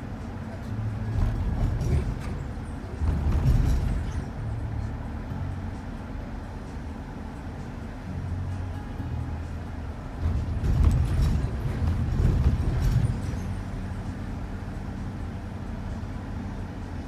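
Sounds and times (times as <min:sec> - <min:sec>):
van engine and road hum: 0:00.0 - 0:17.0.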